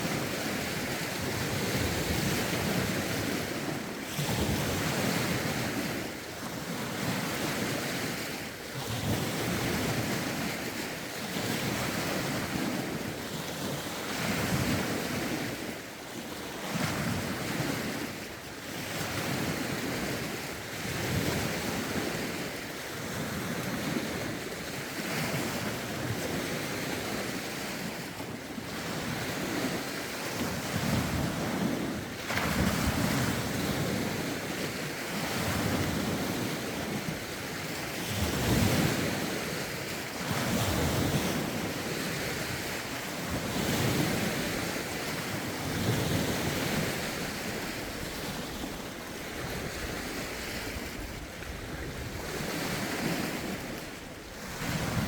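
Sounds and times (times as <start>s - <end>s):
waves lapping on shore: 0.0s - 55.0s
wind on microphone: 0.0s - 55.0s.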